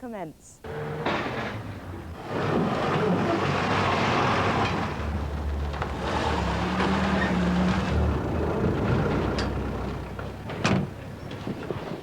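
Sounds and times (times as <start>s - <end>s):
vehicle engine running: 0.7s - 11.6s.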